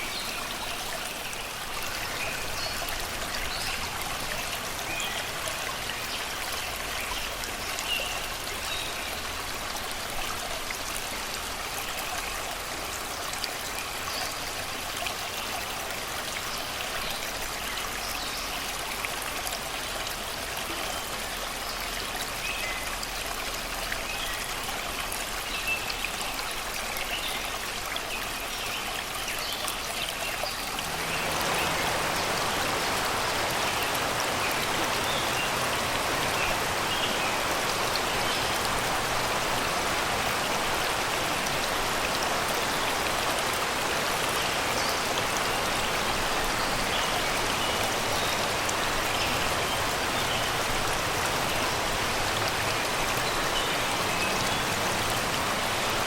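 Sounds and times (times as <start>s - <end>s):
birds singing faintly: 0.0s - 10.4s, 19.8s - 56.0s
river water babbling over rocks: 0.0s - 56.0s.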